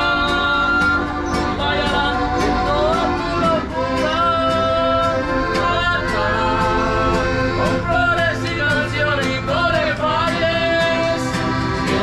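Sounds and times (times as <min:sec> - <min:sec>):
accordion: 0:00.0 - 0:12.0
person singing: 0:00.0 - 0:12.0.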